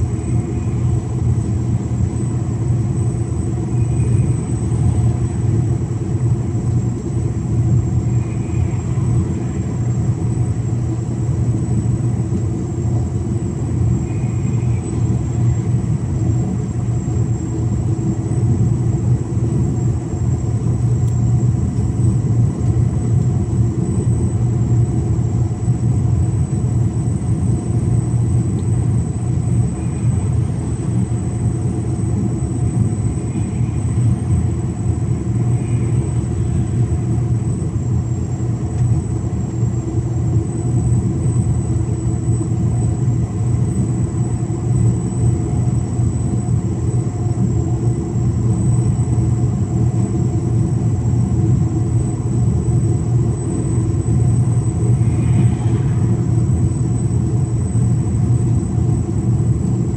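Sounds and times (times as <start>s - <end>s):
thin high whine: 0.0s - 59.9s
truck engine low drone: 0.0s - 59.9s.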